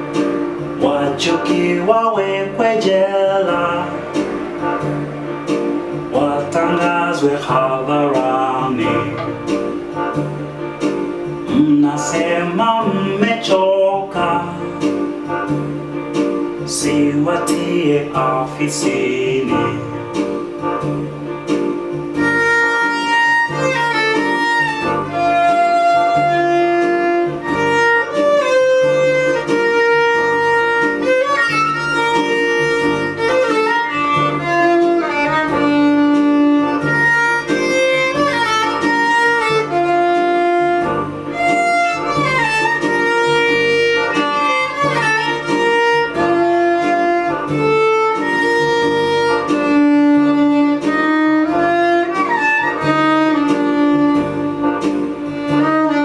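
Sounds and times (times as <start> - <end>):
low pulsing accompaniment: 0.0 - 56.0
violin melody with slides: 0.0 - 56.0.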